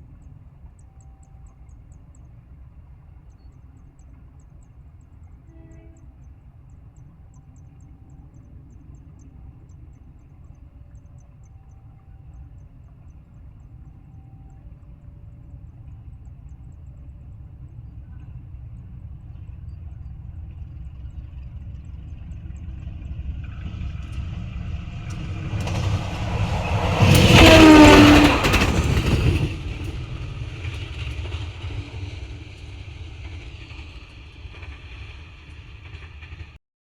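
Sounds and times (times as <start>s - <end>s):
train passing by: 0.0s - 36.6s.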